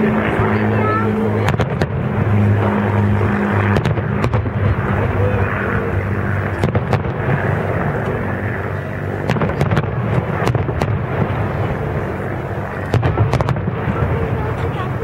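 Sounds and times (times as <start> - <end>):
fireworks bursts rumbling: 0.0 - 15.0.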